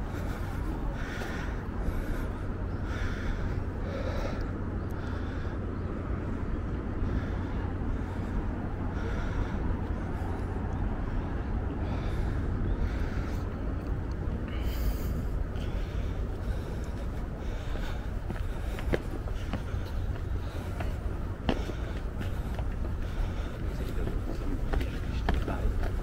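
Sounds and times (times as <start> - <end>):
person breathing hard: 0.0 - 6.3, 6.9 - 26.0
steady low rumble: 0.0 - 26.0.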